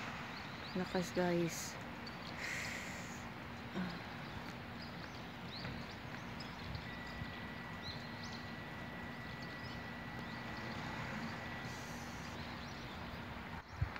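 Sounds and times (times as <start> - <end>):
thin steady high tone: 0.0 - 13.5
faint high chirps: 2.0 - 13.3.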